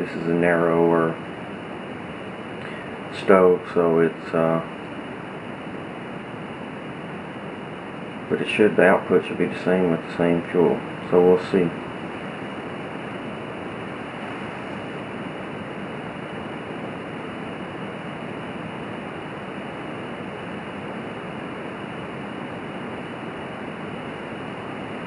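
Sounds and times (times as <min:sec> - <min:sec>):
stove burning with rushing hiss: 0:00.0 - 0:25.0.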